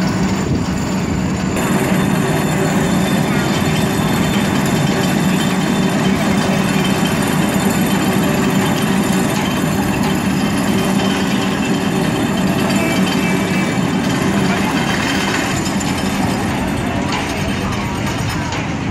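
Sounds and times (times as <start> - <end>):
vibratory pile hammer rattling: 0.0 - 18.9.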